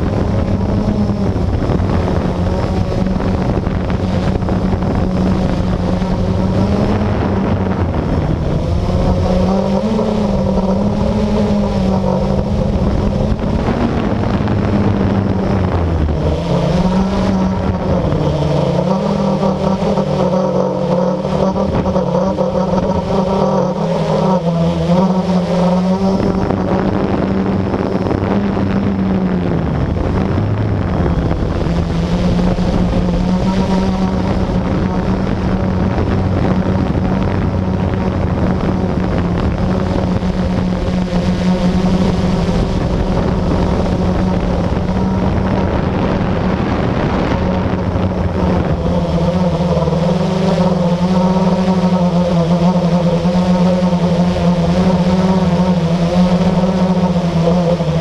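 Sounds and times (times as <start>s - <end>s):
drone propellers humming: 0.0s - 58.0s
rushing noise: 0.0s - 58.0s.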